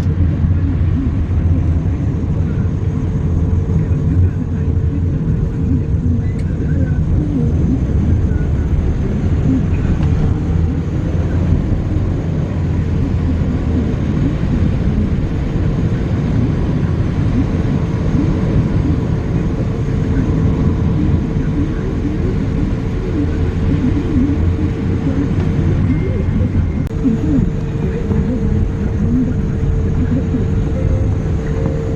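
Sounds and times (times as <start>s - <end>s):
road and engine rumble: 0.0s - 31.9s.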